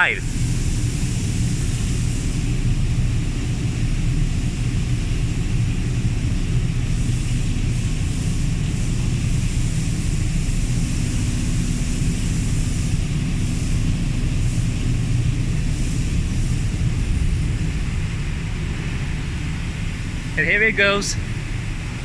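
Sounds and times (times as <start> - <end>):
factory machinery rumble: 0.0 - 22.0
faint constant hum: 0.0 - 22.0.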